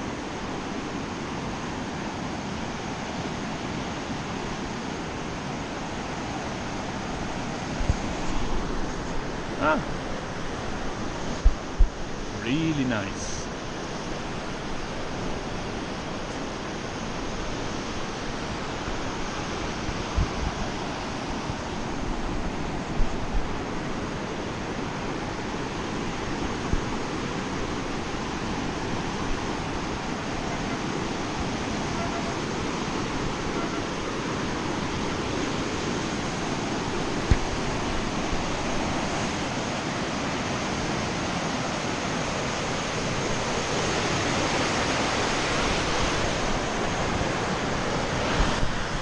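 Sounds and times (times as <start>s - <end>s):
river rapids rushing: 0.0s - 49.0s.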